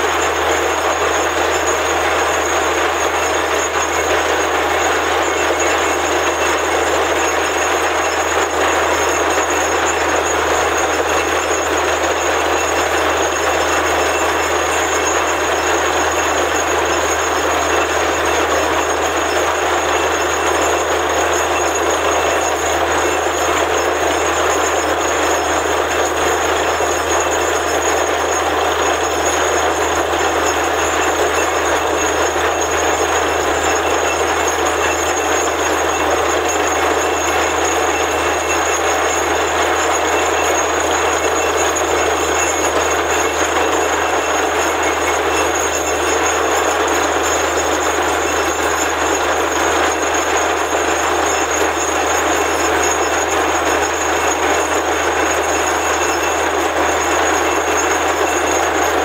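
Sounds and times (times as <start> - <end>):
drilling rig running: 0.0 - 59.0.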